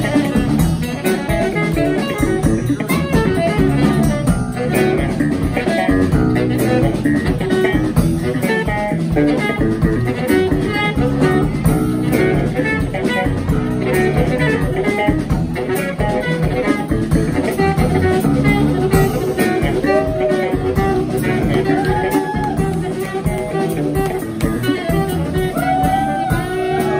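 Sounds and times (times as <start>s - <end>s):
saxophone melody: 0.0s - 26.9s
steady drumming: 0.0s - 26.9s
walking bass line: 0.0s - 26.9s.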